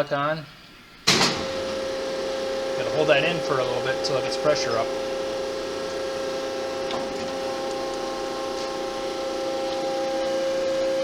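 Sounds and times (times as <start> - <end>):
hydraulic pump motor humming: 1.0 - 11.0.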